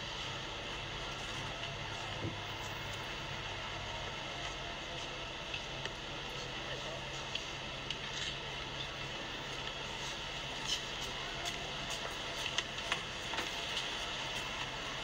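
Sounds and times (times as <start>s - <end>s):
street background hum: 0.0s - 15.0s.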